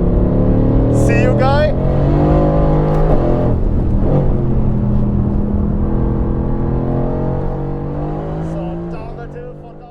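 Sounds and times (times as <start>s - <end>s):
car engine under way: 0.0s - 9.9s.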